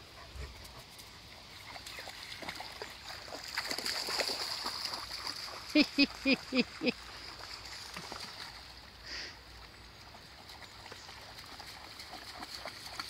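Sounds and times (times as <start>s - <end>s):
dog wading through water: 0.0s - 13.0s.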